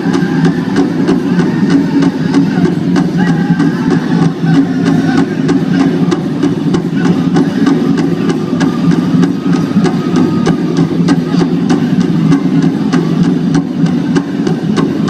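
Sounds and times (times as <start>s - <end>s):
big drum beating: 0.0s - 15.0s.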